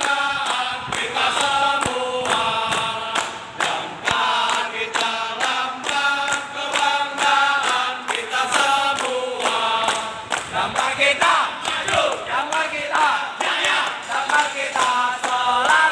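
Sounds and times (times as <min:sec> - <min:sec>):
hand claps: 0:00.0 - 0:15.9
men singing a rhythmic chant: 0:00.0 - 0:15.9.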